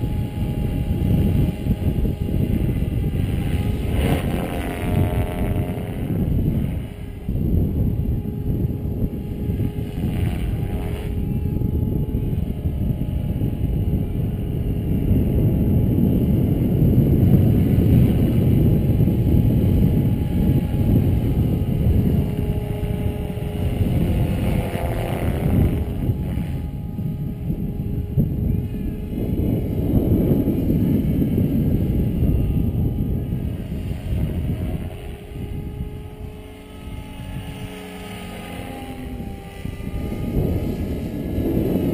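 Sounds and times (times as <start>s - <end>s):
model helicopter rotor whine: 0.0s - 41.9s
wind rumble on microphone: 0.0s - 41.9s.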